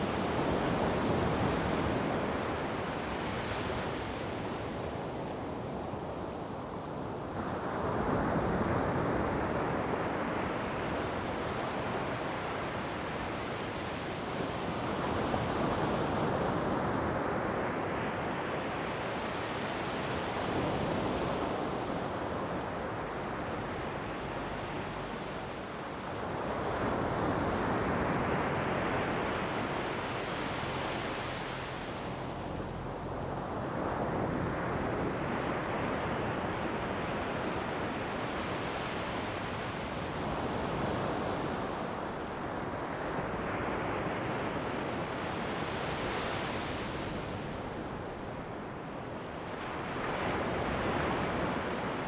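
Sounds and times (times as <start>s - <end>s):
ocean waves breaking on shore: 7.2s - 52.0s.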